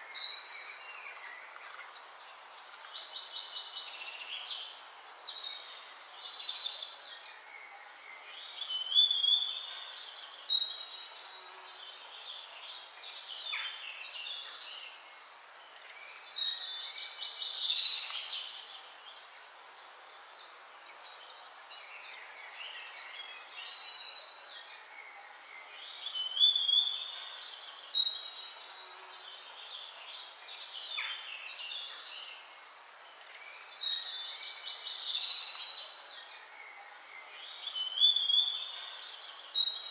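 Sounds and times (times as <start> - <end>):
birds chirping and trilling: 0.0 - 39.9
steady background hiss: 0.0 - 39.9.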